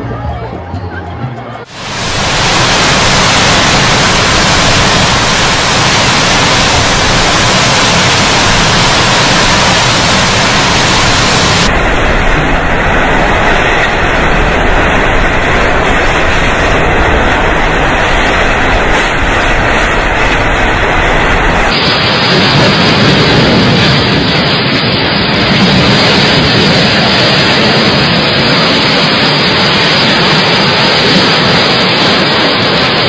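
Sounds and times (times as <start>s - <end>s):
strong wind and heavy rain: 1.7s - 33.0s.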